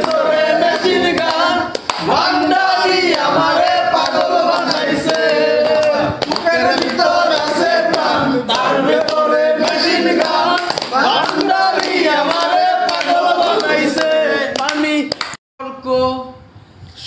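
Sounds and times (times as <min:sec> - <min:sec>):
men singing together: 0:00.0 - 0:15.2
hand claps: 0:00.0 - 0:15.4.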